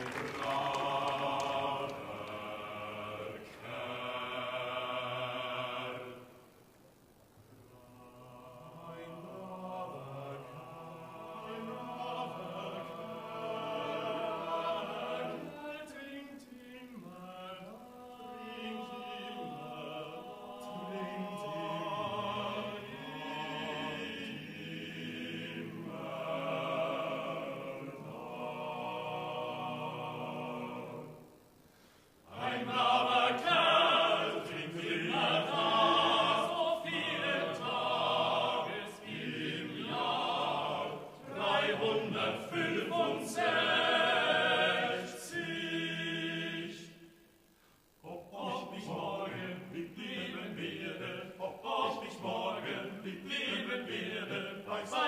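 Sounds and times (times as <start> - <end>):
men's choir singing a cappella: 0.0 - 6.5, 7.7 - 31.4, 32.2 - 47.3, 48.0 - 55.0.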